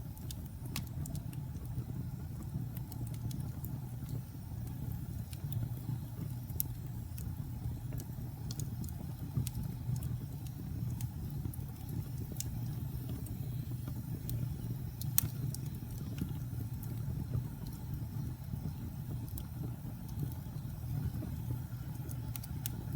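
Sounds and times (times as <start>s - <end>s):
fire crackling and popping: 0.0s - 22.9s
fire rumbling in fireplace: 0.0s - 22.9s.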